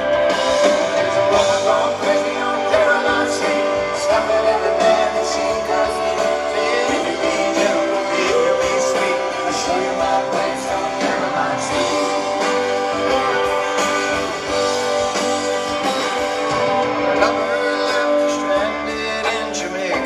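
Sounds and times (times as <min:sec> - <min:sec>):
guitars: 0:00.0 - 0:20.0
live band playing: 0:00.0 - 0:20.0.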